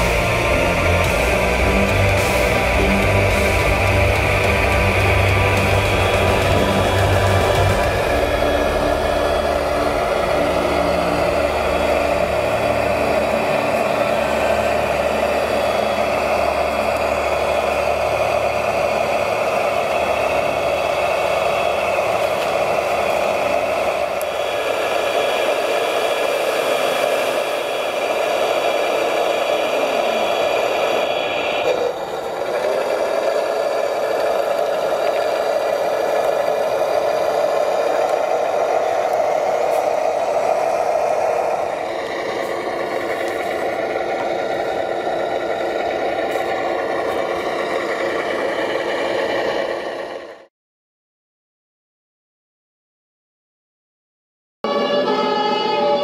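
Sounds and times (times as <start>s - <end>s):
water pump and motors running: 0.0s - 50.5s.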